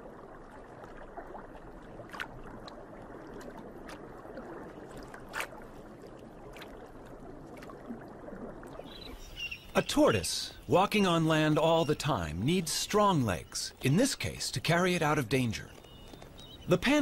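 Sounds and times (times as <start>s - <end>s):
underwater ambience: 0.0s - 17.0s.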